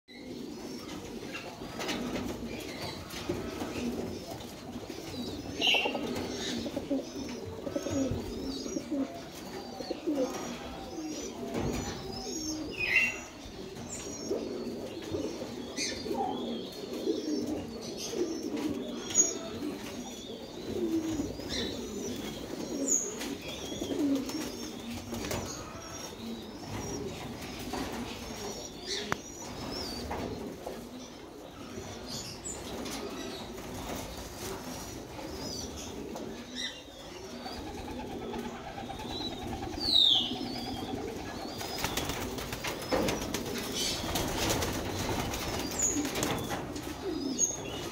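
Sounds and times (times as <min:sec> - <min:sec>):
pigeons cooing: 0:00.1 - 0:47.9.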